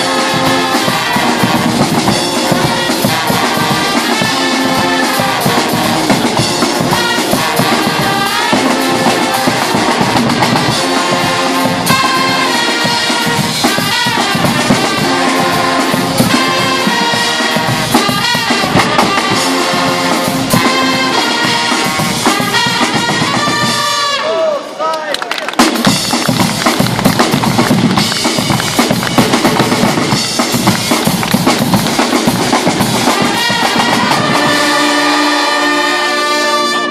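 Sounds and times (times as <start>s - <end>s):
bass drum: 0.0s - 23.9s, 25.6s - 34.8s
cymbals: 0.0s - 24.8s, 25.7s - 36.9s
brass band playing carnival music: 0.0s - 36.9s
snare drums: 0.0s - 36.9s.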